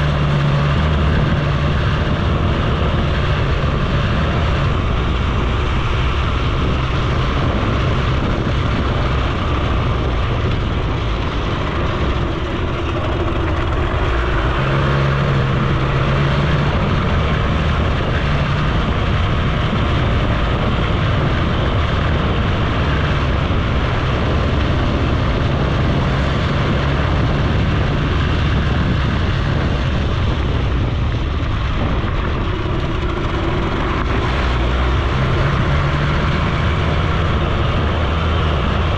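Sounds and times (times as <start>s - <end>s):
moped engine running: 0.0s - 38.9s
wind noise: 0.0s - 38.9s.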